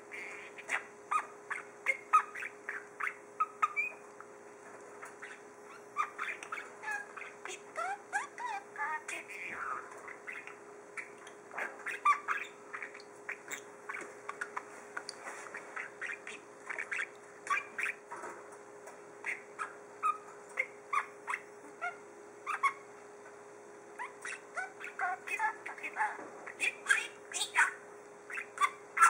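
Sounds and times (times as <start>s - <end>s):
faint steady hum: 0.0s - 29.0s
budgerigar chattering: 0.1s - 4.0s, 5.1s - 14.7s, 15.6s - 18.0s, 19.2s - 22.8s, 24.0s - 29.0s.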